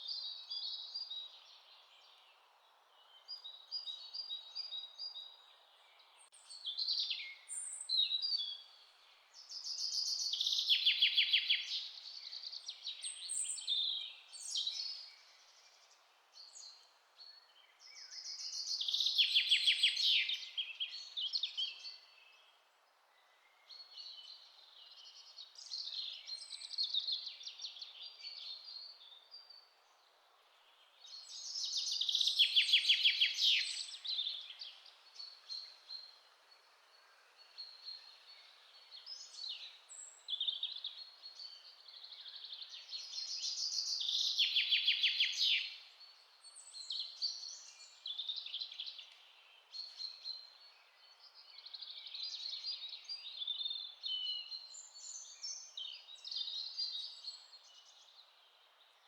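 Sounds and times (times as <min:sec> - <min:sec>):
faint steady hiss: 0:00.0 - 0:59.0
songbirds singing and calling: 0:00.0 - 0:59.0.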